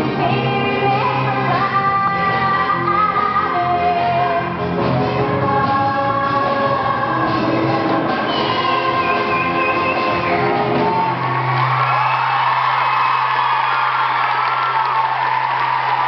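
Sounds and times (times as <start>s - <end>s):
loud musical accompaniment: 0.0s - 16.0s.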